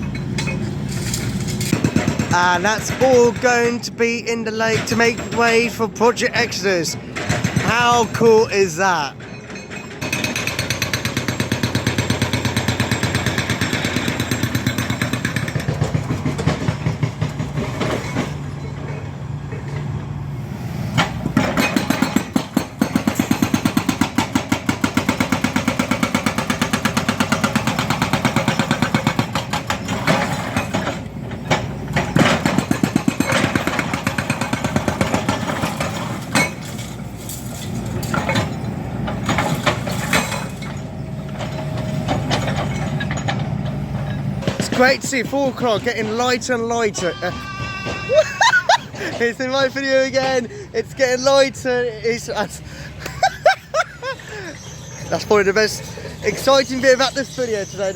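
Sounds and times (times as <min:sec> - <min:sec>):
diesel machinery engines clattering: 0:00.0 - 0:57.9.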